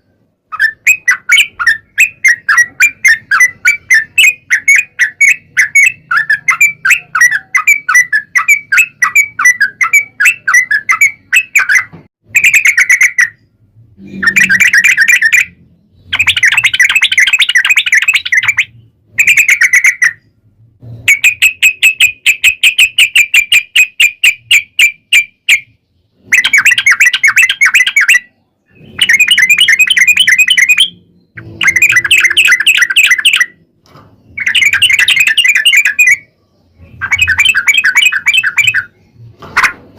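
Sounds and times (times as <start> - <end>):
bird chattering song: 0.0 - 20.4, 21.0 - 39.8.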